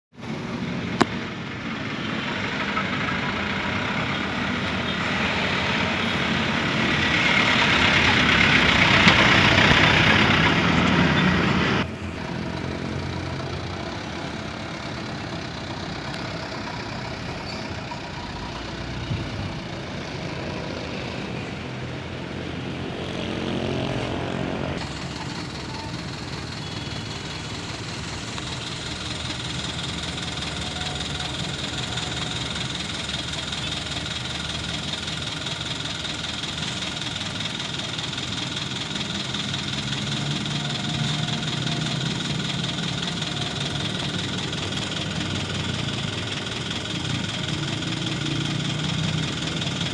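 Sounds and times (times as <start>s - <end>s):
diesel truck engine running: 0.2s - 49.9s.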